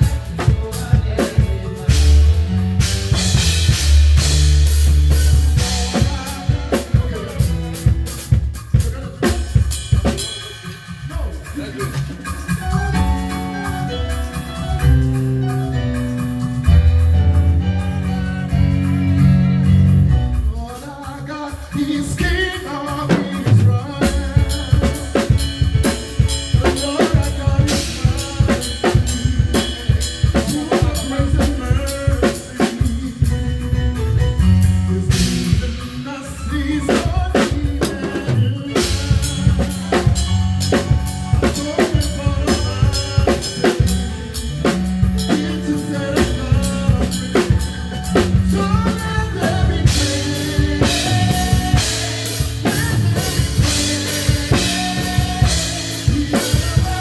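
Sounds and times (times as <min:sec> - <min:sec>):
drum kit: 0:00.0 - 0:57.0
live band playing: 0:00.0 - 0:57.0.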